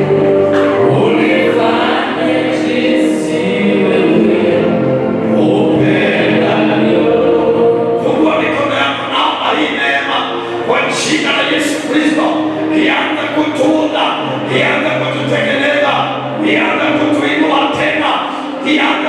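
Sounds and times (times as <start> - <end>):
choir singing gospel song: 0.0 - 19.0.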